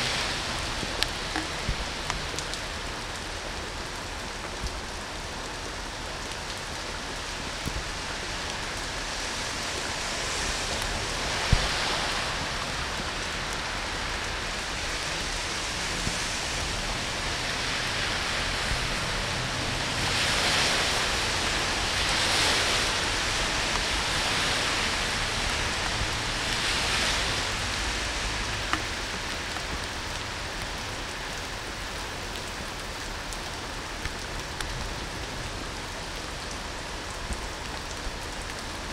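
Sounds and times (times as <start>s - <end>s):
heavy rain on a street: 0.0s - 38.9s.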